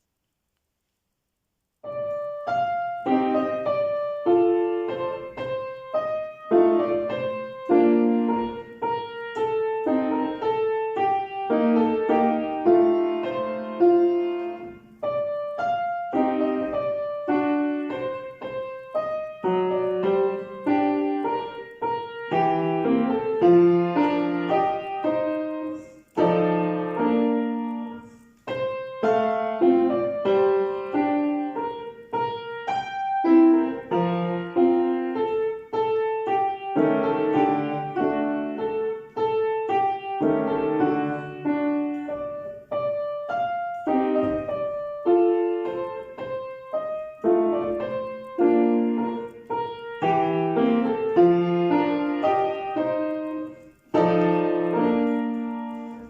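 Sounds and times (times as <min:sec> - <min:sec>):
solo piano piece: 0:01.4 - 0:56.0.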